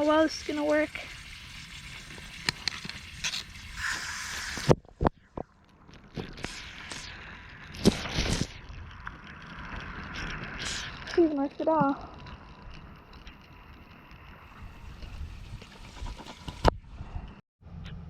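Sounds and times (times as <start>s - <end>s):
running water: 0.0s - 16.7s.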